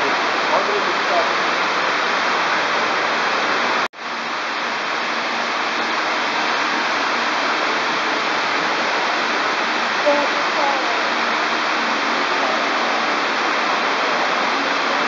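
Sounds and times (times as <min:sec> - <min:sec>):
water pouring down waterfall: 0:00.0 - 0:15.0.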